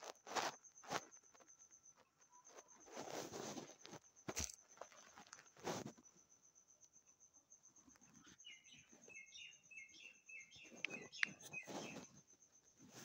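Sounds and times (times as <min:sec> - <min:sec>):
faint chirping: 0:00.5 - 0:13.0.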